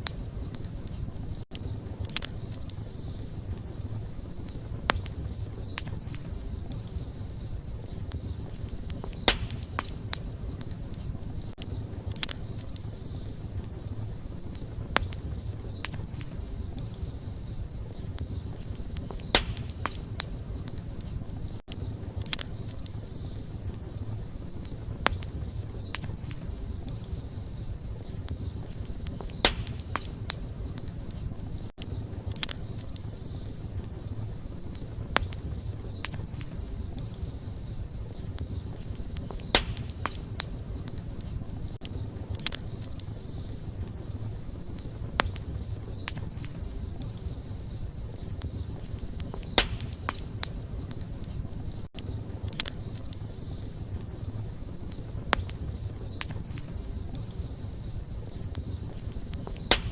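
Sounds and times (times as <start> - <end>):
fire crackles and pops: 0.0 - 59.9
low rumble of flames: 0.0 - 59.9.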